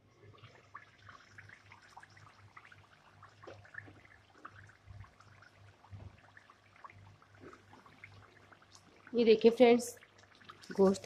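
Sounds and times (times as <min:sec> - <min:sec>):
curry bubbling in pan: 0:00.0 - 0:11.0.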